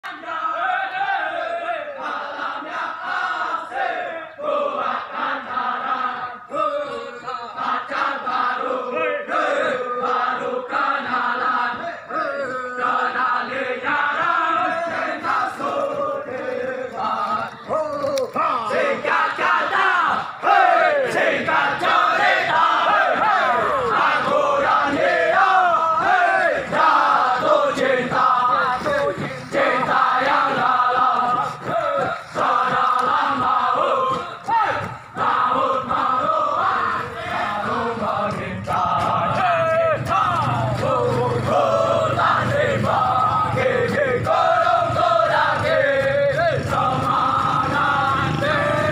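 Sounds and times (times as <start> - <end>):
men chanting a running cadence: 0.0 - 48.9.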